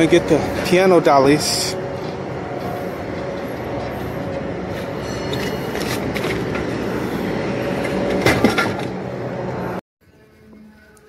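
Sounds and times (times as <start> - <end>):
steady mechanical noise: 0.0 - 11.0.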